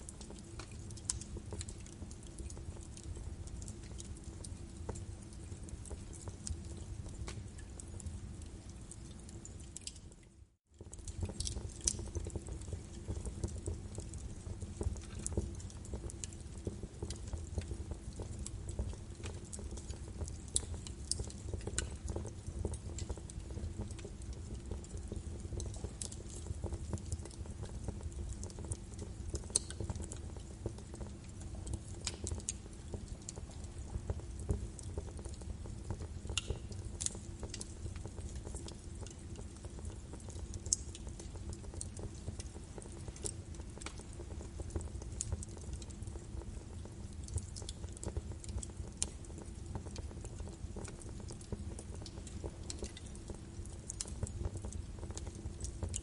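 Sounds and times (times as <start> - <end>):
fire crackling and popping: 0.0 - 56.0
low fire rumble: 0.0 - 56.0.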